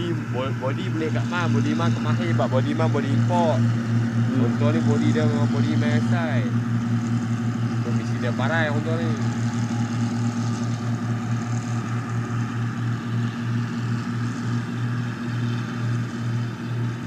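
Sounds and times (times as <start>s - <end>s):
throbbing engine drone: 0.0s - 17.0s.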